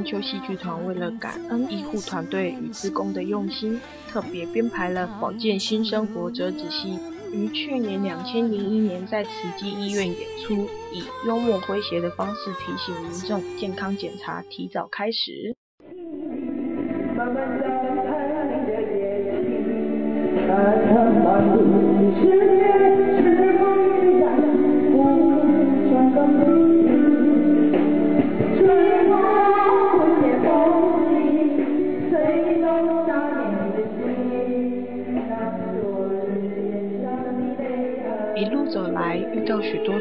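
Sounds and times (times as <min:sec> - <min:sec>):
woman singing: 0:00.0 - 0:15.4, 0:20.4 - 0:27.8, 0:28.4 - 0:40.0.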